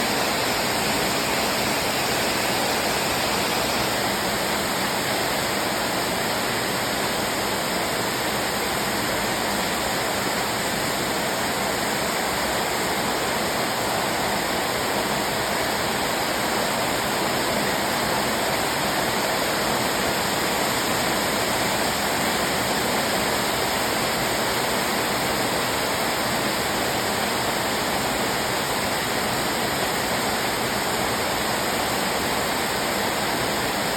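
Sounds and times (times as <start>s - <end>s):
heavy rain downpour: 0.0s - 33.9s.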